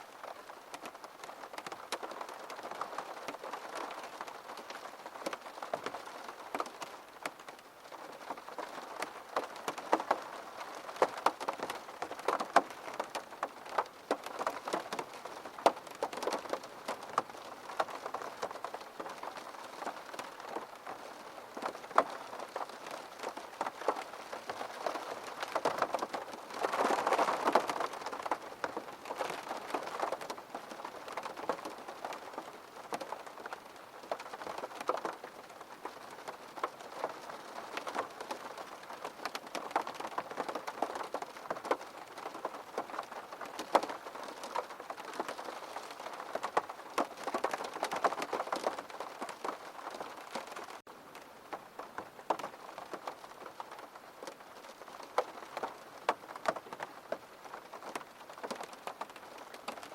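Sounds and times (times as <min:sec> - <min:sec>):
rain on hard surface: 0:00.0 - 0:59.9.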